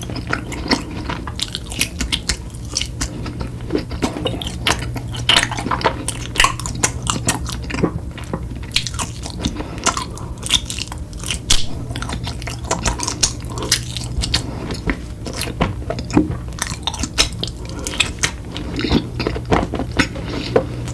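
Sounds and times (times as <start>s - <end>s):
person chewing crunchy food: 0.0s - 20.9s.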